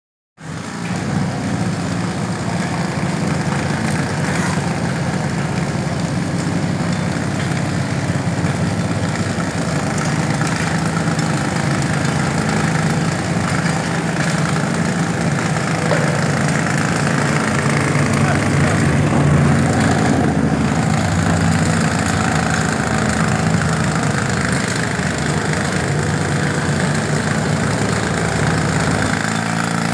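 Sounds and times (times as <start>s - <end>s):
lime dispenser humming: 2.7s - 29.9s.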